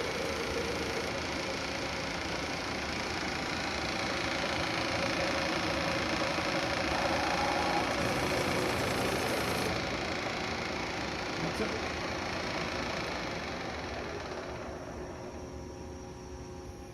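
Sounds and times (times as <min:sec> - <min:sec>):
faint machine whine: 0:00.0 - 0:16.9
milling machine humming: 0:00.0 - 0:16.9.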